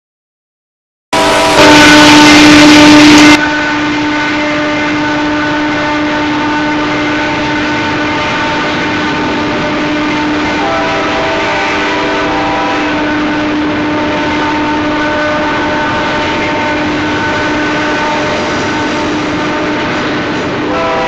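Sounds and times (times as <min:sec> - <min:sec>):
diesel freight train running: 0:01.2 - 0:21.0.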